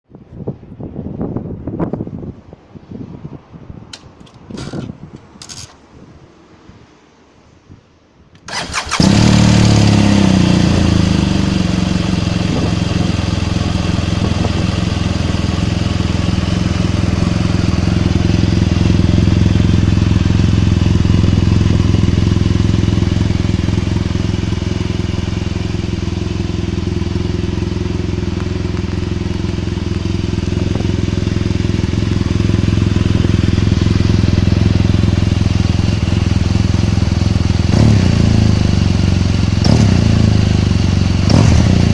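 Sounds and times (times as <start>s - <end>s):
motorcycle engine starting and idling: 3.9s - 5.9s, 8.4s - 41.9s.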